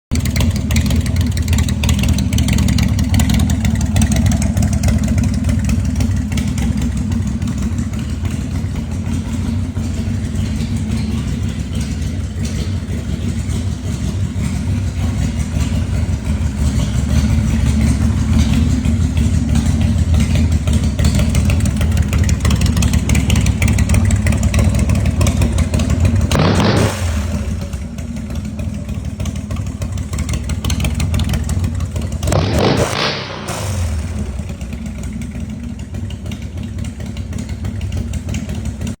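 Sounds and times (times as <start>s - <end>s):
motorcycle engine running at low revs: 0.0s - 39.0s.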